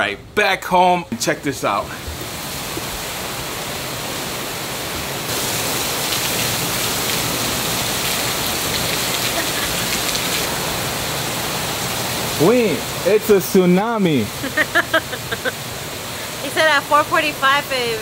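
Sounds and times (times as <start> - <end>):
heavy rain: 1.7 - 18.0
water pouring off roof: 1.9 - 17.8.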